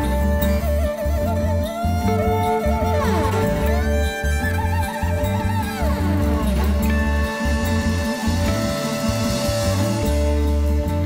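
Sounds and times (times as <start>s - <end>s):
bowed string melody: 0.0s - 11.0s.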